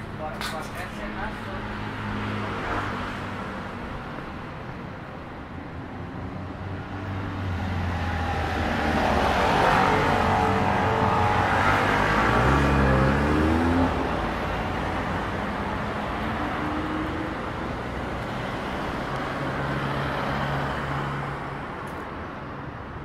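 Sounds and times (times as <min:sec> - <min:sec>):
vehicle engines passing: 0:00.0 - 0:23.0.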